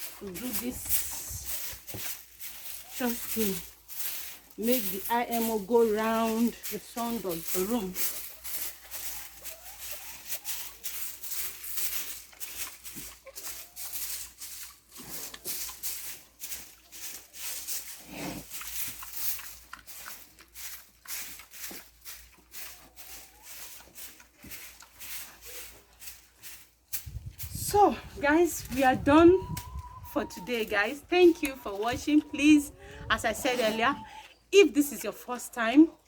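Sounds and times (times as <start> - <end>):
broom sweeping sawdust: 0.0 - 29.3.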